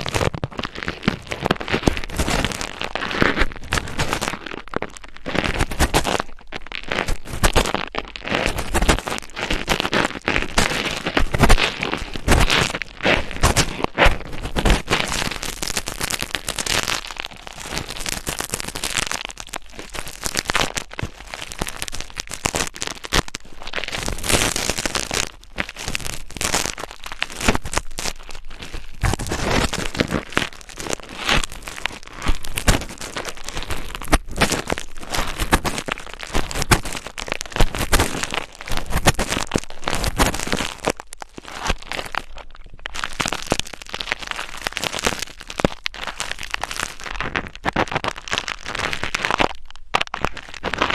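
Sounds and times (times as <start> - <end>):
close crackling and scratching: 0.0 - 50.9.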